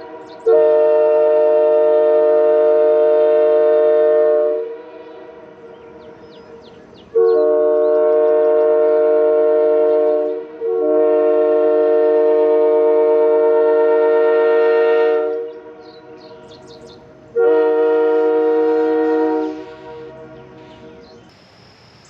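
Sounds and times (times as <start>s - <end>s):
train horn chord blasts: 0.0s - 21.3s.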